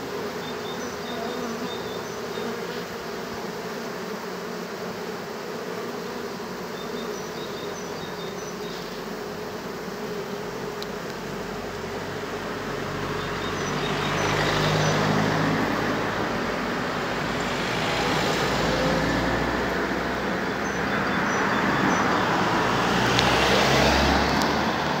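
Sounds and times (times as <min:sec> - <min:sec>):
road traffic hiss and rumble: 0:00.0 - 0:05.4, 0:06.2 - 0:25.0.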